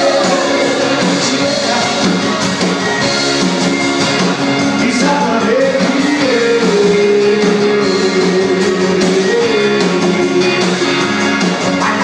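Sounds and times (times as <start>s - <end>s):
live reggae band playing: 0.0s - 12.0s.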